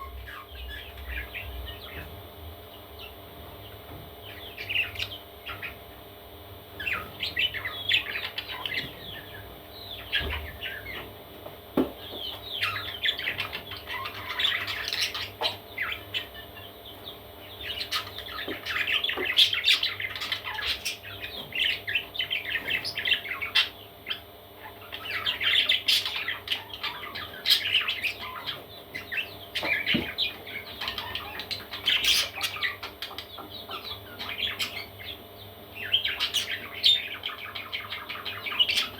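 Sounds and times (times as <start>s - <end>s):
parrot chicks squawking: 0.0s - 2.1s, 2.9s - 6.0s, 6.8s - 11.1s, 12.0s - 38.9s.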